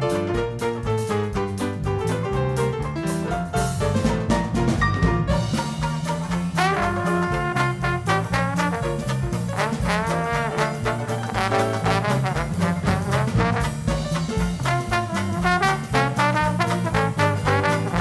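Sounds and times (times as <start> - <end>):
brass swing music: 0.0 - 18.0.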